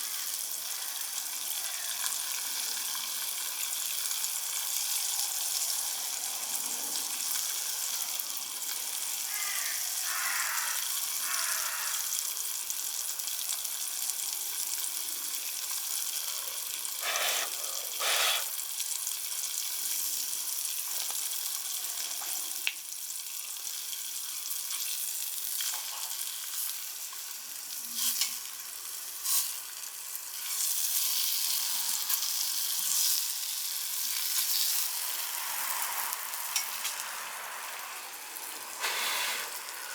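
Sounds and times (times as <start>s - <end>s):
meat sizzling over campfire: 0.0s - 39.9s.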